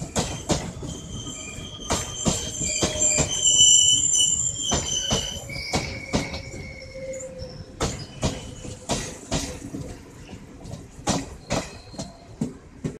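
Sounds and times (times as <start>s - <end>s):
train wheels clacking over rail joints: 0.0s - 3.6s, 4.6s - 6.7s, 7.8s - 13.0s
train rolling rumble: 0.0s - 13.0s.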